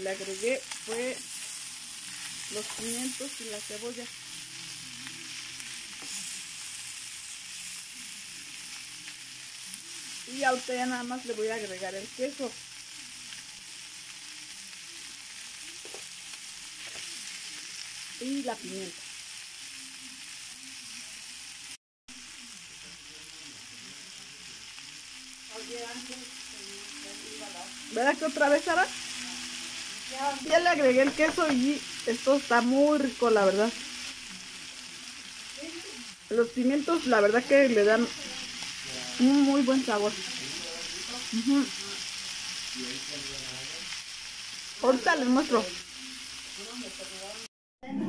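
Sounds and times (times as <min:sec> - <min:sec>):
food sizzling in a frying pan: 0:00.0 - 0:47.5.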